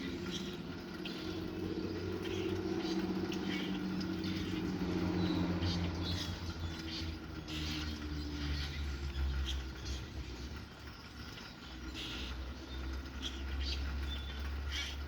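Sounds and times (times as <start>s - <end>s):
rain pattering: 0.0s - 15.0s
small birds chirping: 0.0s - 15.0s.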